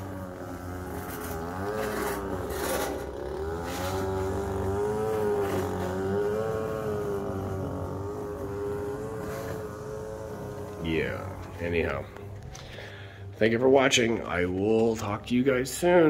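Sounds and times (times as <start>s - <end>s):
lawnmower engines running: 0.0s - 16.0s
weed whacker engines: 0.0s - 16.0s.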